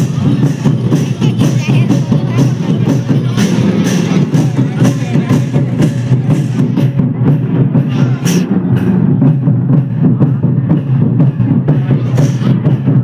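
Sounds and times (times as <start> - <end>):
loud music with drum beat: 0.0 - 13.0.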